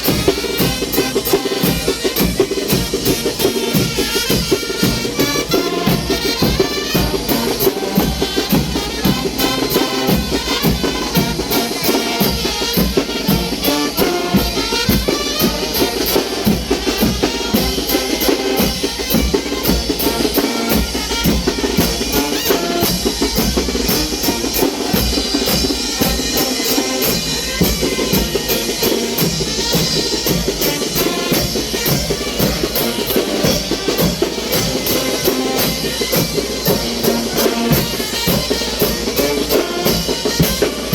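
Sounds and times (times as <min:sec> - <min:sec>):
driving drumbeat: 0:00.0 - 0:40.9
wind band playing dance music: 0:00.0 - 0:40.9.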